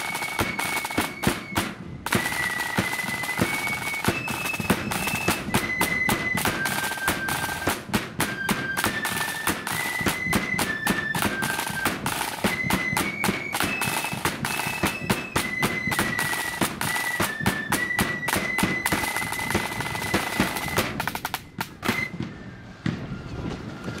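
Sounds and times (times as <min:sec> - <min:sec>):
snare drumming: 0:00.0 - 0:22.3
flutes playing melody: 0:00.0 - 0:24.0.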